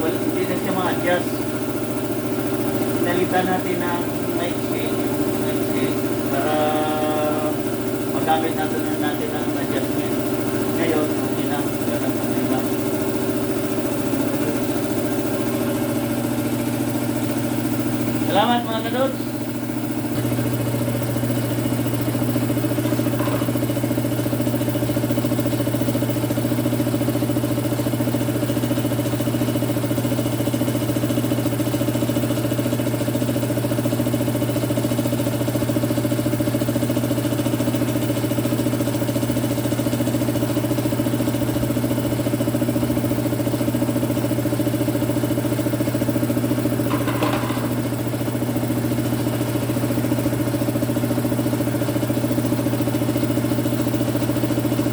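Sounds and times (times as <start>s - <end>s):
air compressor humming: 0.0s - 54.9s.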